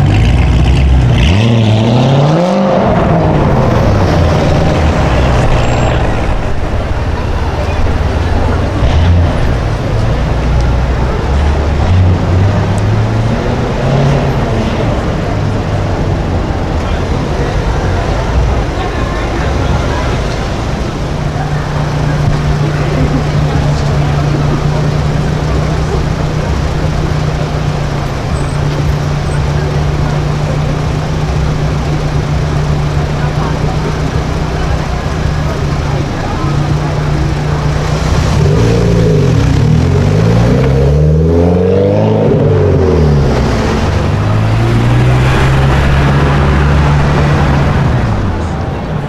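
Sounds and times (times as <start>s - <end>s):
car engine running: 0.0s - 41.5s, 42.2s - 49.0s
street traffic noise: 0.0s - 49.0s.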